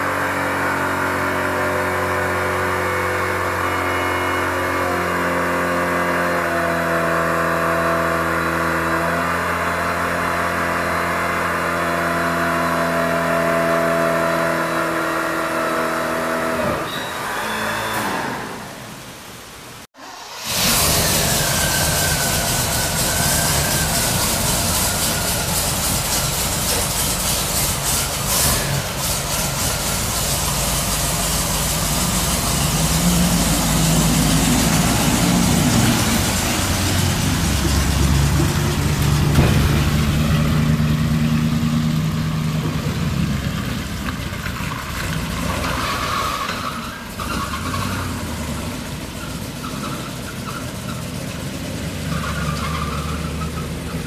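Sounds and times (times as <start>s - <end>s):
bus engine revving: 0.0s - 16.9s, 20.0s - 54.0s.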